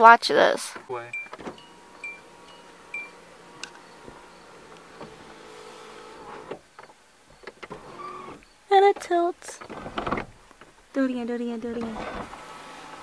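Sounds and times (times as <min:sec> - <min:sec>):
sunroof motor humming: 0:00.8 - 0:13.0.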